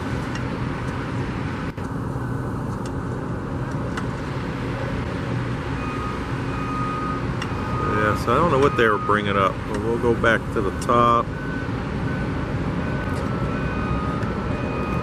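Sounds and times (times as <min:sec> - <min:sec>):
low engine hum: 0:00.0 - 0:15.0
traffic rumble: 0:00.0 - 0:15.0.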